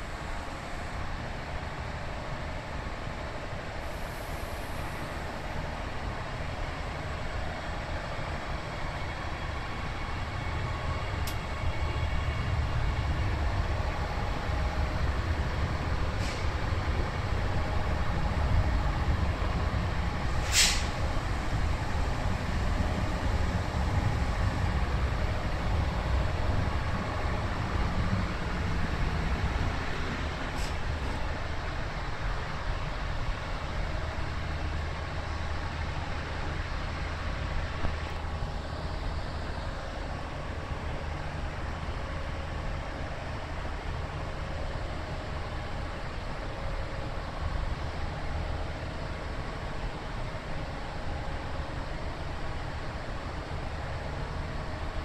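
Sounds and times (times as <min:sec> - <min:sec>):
electric train running past: 0:00.0 - 0:55.0.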